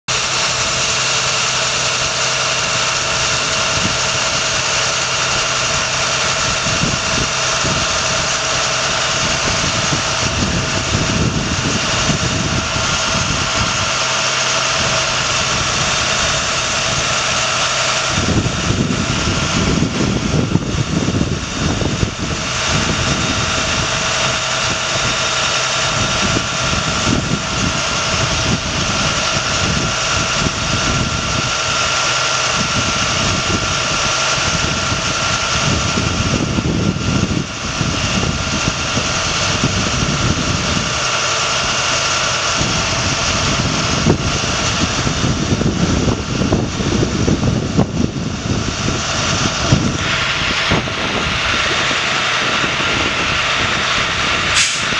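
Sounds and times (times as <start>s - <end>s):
diesel engine idling: 0.0s - 54.9s
steady high whine: 0.1s - 54.9s.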